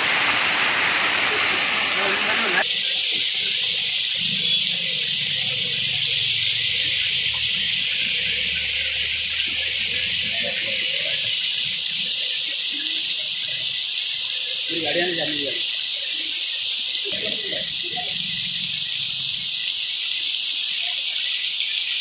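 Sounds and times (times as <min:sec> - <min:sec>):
torrential rain pouring: 0:00.0 - 0:22.0.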